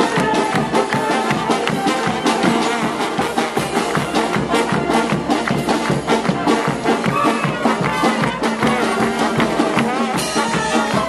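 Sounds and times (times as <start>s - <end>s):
brass band playing: 0.0s - 11.0s
drum beat: 0.0s - 11.0s.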